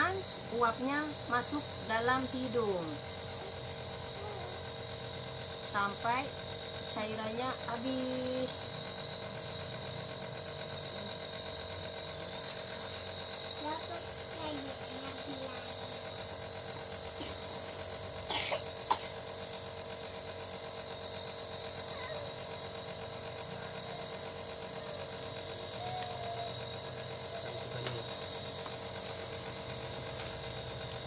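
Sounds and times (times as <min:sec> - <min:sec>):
nebulizer humming: 0:00.0 - 0:31.0.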